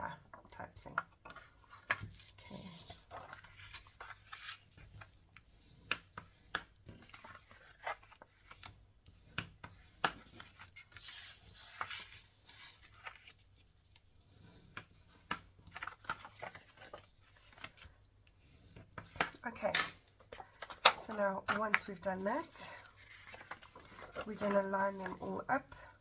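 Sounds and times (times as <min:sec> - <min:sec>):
paper rustling and crackling: 0:01.1 - 0:19.3, 0:20.2 - 0:25.4.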